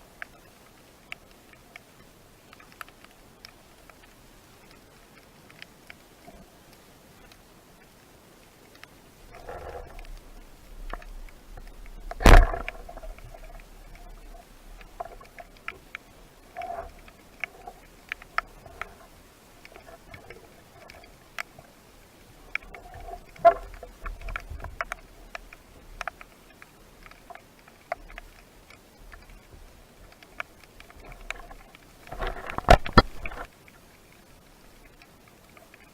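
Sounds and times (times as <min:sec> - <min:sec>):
underwater clicks and crackles: 0:00.0 - 0:35.9.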